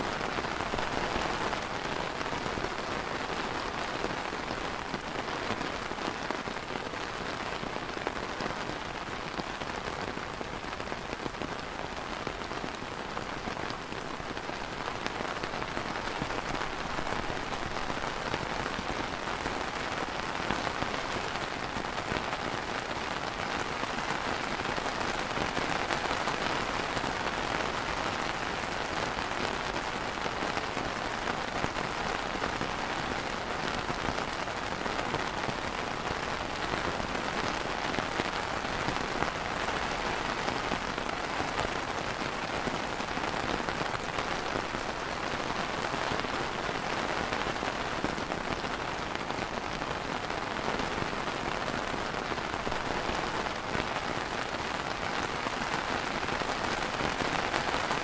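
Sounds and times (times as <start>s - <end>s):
rain on a plastic umbrella: 0.0s - 58.0s.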